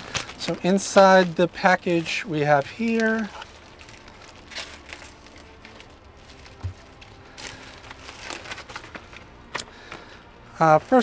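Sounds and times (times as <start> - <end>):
packaging bag crinkling: 0.0 - 10.1.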